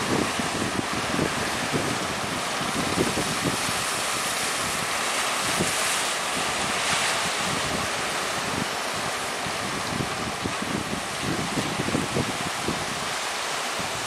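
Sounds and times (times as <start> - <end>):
sea water rushing: 0.0 - 14.0
wind buffeting microphone: 0.0 - 14.0.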